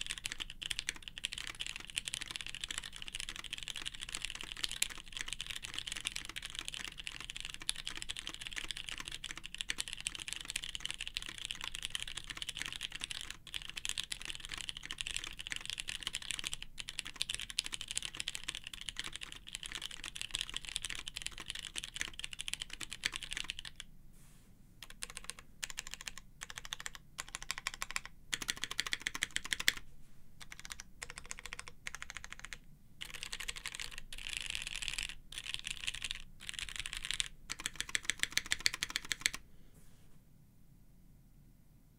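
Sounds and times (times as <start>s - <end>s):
mechanical keyboard typing: 0.0s - 23.8s, 24.8s - 29.8s, 30.4s - 39.4s.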